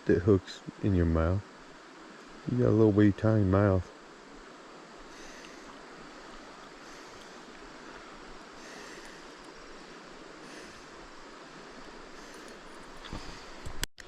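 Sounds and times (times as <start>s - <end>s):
river water flowing: 0.4s - 13.8s.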